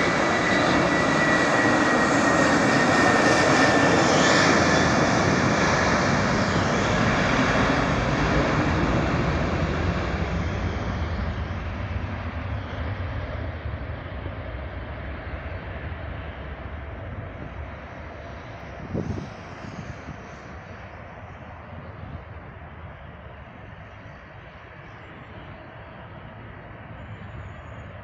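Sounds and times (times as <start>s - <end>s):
jet engines at take-off: 0.0s - 28.0s.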